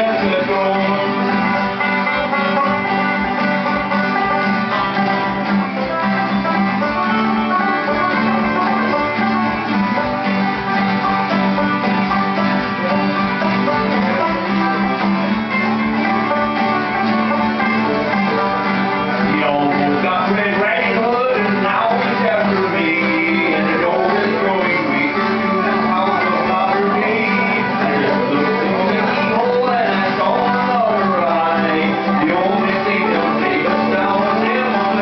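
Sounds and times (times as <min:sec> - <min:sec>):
banjo: 0:00.0 - 0:35.0
fiddle: 0:00.0 - 0:35.0
string band playing: 0:00.0 - 0:35.0.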